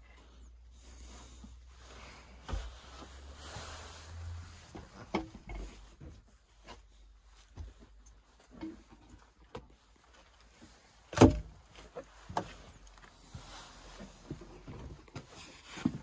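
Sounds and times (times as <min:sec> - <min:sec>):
rustling and handling noise: 0:00.0 - 0:16.0.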